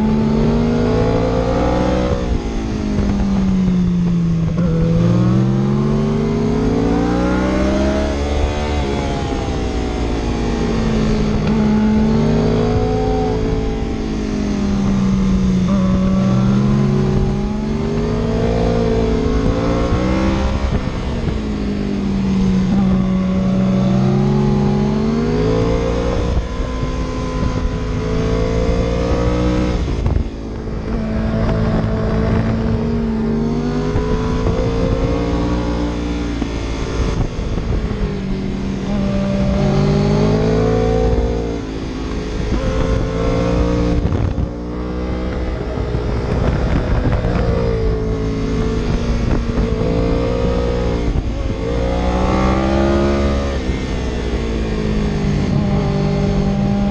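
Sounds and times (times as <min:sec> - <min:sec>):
car engine accelerating: 0:00.0 - 0:56.9
road rumble: 0:00.0 - 0:56.9
wind noise: 0:00.0 - 0:56.9.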